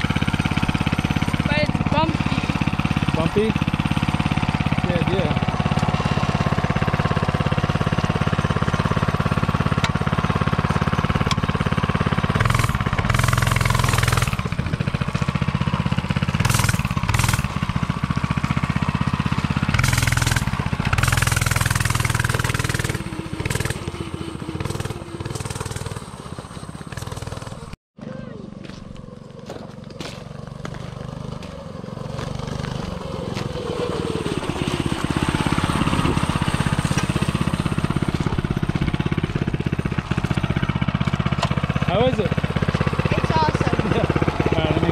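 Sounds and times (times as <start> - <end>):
mini bike engine running: 0.0 - 44.9.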